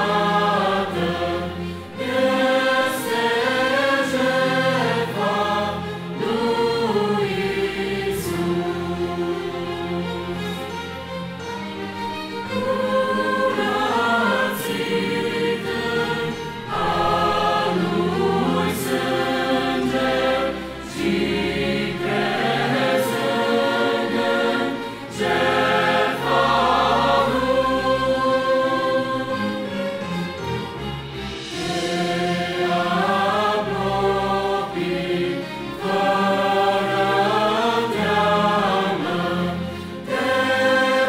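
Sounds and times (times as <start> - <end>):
youth choir singing a hymn: 0.0 - 41.0.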